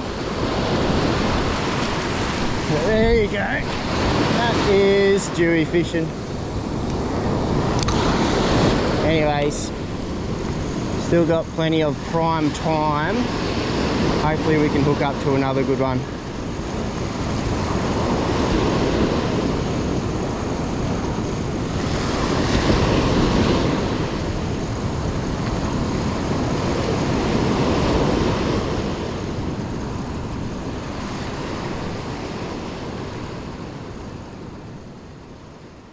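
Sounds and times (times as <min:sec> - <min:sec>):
surf breaking on beach: 0:00.0 - 0:35.6
wind buffeting microphone: 0:00.0 - 0:35.6.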